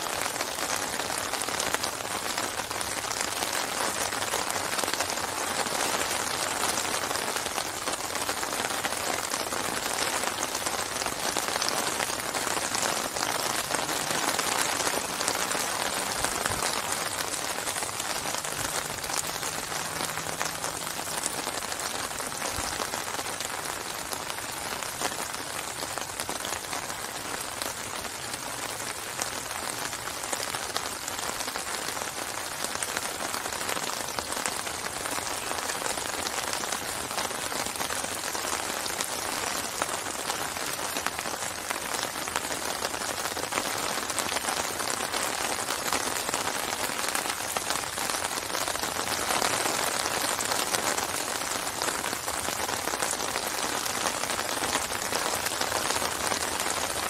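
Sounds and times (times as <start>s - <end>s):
rain falling on water: 0.0s - 57.0s.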